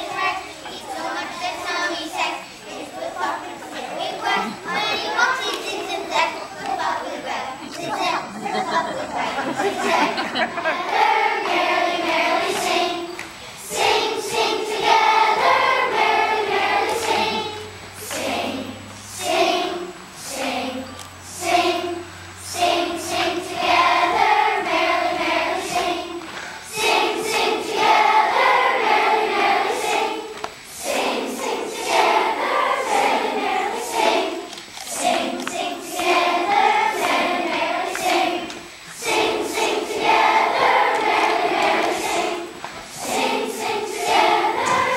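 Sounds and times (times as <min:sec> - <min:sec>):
children's choir singing: 0:00.0 - 0:44.9.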